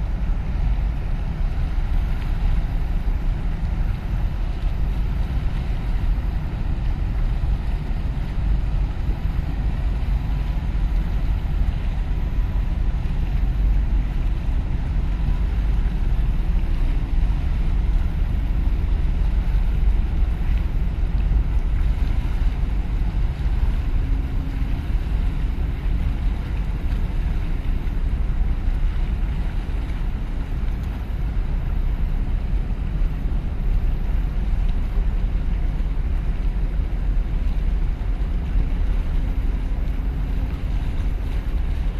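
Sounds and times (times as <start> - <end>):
ship engine drone: 0.0 - 41.9
wind buffeting microphone: 0.0 - 41.9.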